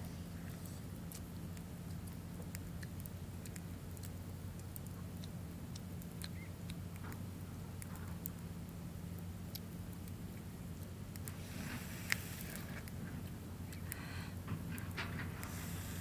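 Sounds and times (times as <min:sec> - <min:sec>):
crab shell clicking and crackling: 0:00.0 - 0:16.0
steady low hum: 0:00.0 - 0:16.0.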